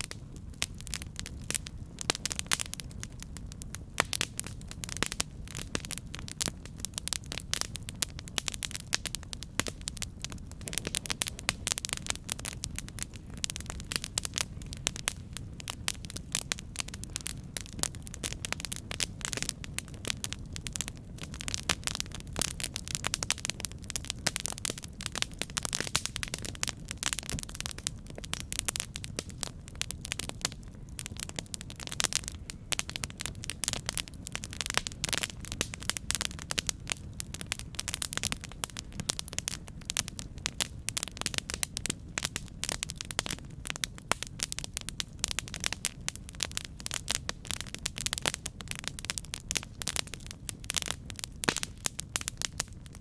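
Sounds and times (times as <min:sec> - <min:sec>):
campfire crackles and pops: 0:00.0 - 0:53.0
low rumble of flames: 0:00.0 - 0:53.0.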